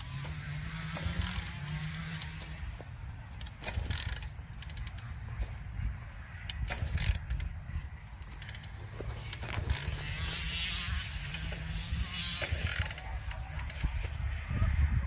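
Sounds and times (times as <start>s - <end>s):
distant dirt bike engine: 0.0s - 15.0s
wind rumbling on microphone: 0.0s - 15.0s.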